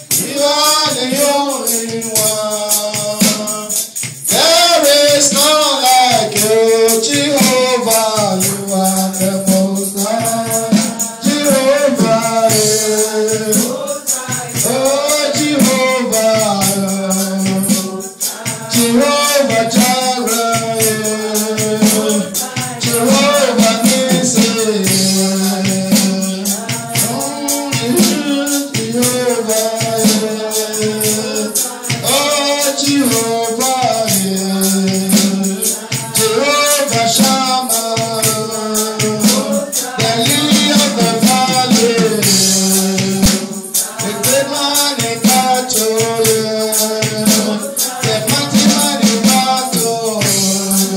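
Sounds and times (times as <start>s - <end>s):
tambourine jingle: 0.0s - 50.9s
voices singing gospel song: 0.0s - 50.9s.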